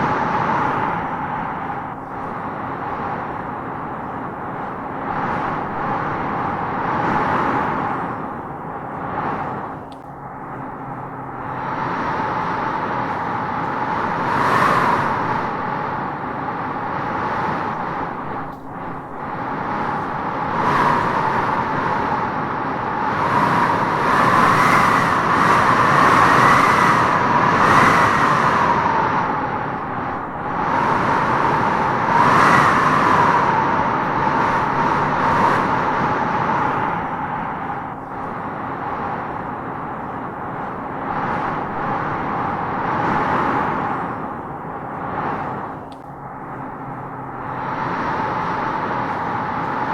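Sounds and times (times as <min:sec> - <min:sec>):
wind howling through trees: 0:00.0 - 0:49.9.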